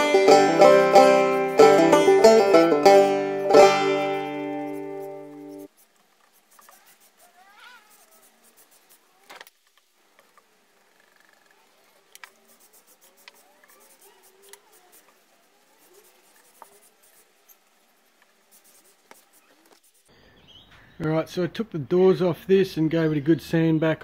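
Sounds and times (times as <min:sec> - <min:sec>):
paintbrush strokes on wood: 0:00.0 - 0:20.1.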